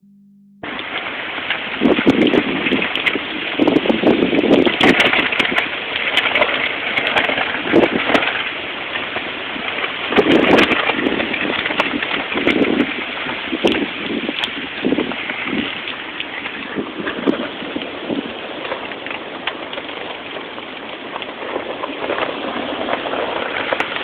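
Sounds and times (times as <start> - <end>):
steady hiss of rain: 0.6 - 24.0
wind gusts buffeting microphone: 0.7 - 24.0.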